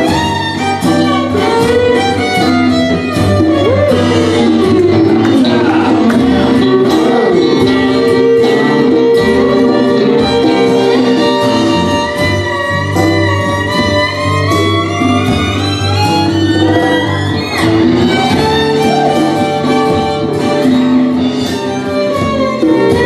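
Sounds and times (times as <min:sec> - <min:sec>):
strummed acoustic guitars: 0:00.0 - 0:23.0
violin lead line: 0:00.0 - 0:23.0.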